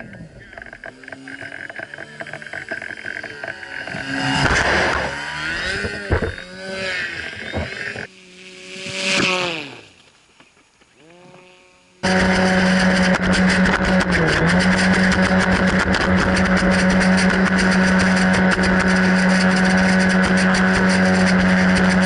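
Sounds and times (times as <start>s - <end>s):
hovercraft motor and fan: 0.0s - 10.3s, 10.9s - 22.0s.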